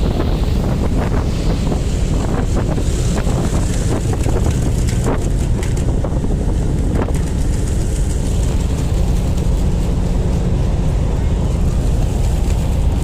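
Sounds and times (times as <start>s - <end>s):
ship diesel engines rumbling: 0.0s - 13.0s
wind buffeting microphone: 0.0s - 13.0s.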